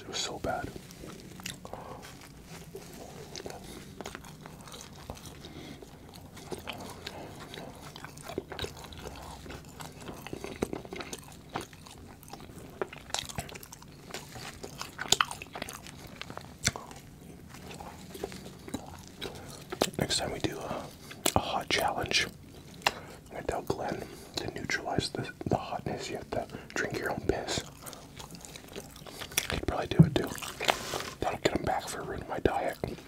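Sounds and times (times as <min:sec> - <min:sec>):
person chewing a sandwich: 0:00.0 - 0:33.0.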